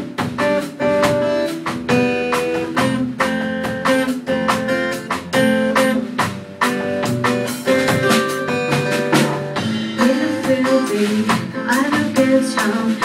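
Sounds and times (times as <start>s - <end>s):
picked guitar riff: 0.0s - 12.9s
drum beat: 0.0s - 13.0s
strummed guitar chords: 0.0s - 13.0s.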